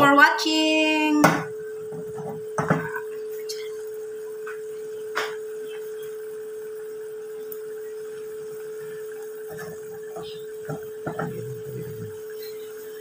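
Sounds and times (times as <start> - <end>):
steady hum: 0.0 - 13.0
sauce bubbling in a pan: 2.0 - 13.0.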